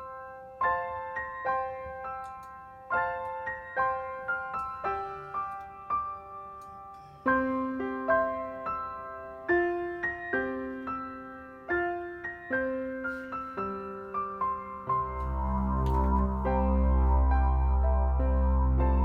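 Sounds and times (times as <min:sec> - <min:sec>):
piano notes and chords: 0:00.0 - 0:19.0.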